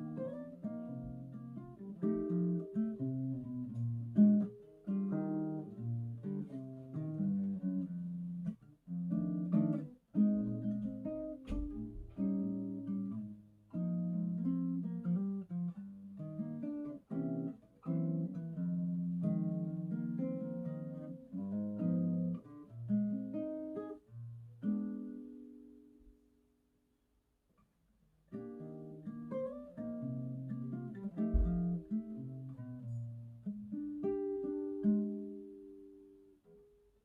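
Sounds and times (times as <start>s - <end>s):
jazz acoustic guitar: 0.0s - 26.6s, 27.6s - 37.0s.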